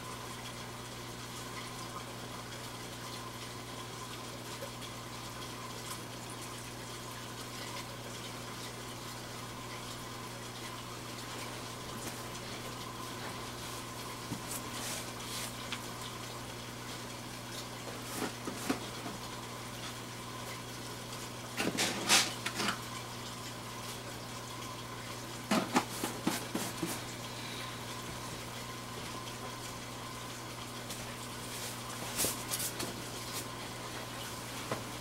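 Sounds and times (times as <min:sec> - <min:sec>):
aquarium water running: 0:00.0 - 0:35.0
low equipment hum: 0:00.0 - 0:35.0.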